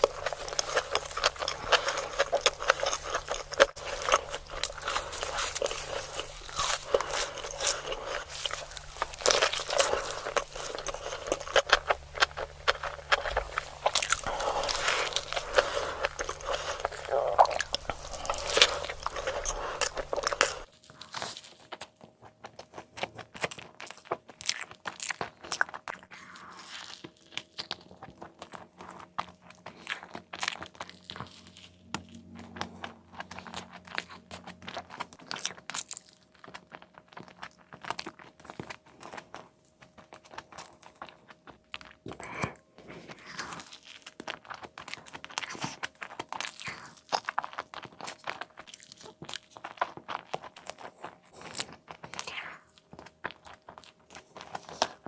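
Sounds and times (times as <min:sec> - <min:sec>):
chewing crispy fried food: 0:00.0 - 0:55.0.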